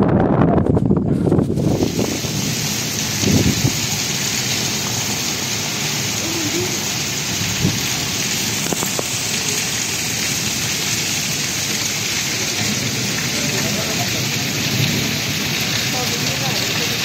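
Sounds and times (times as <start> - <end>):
heavy rain pouring: 0.2 - 17.0.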